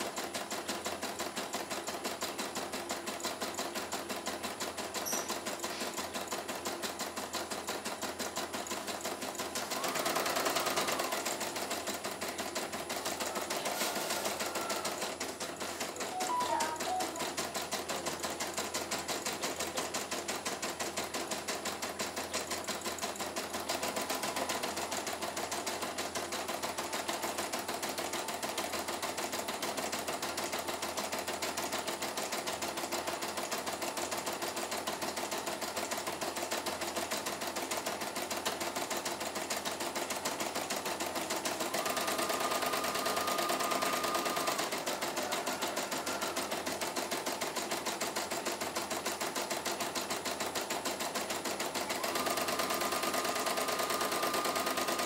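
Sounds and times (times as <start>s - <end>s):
embroidery machine needle clatter: 0.0s - 55.0s.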